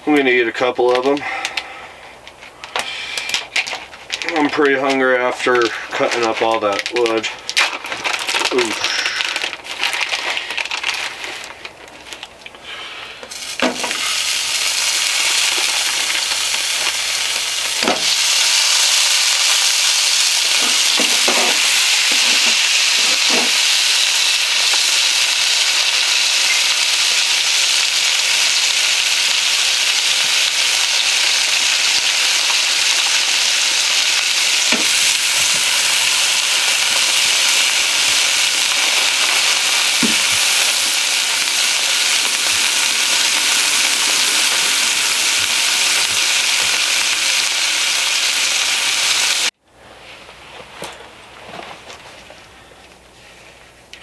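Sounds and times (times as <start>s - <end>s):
sausages sizzling in a pan: 2.7s - 49.6s.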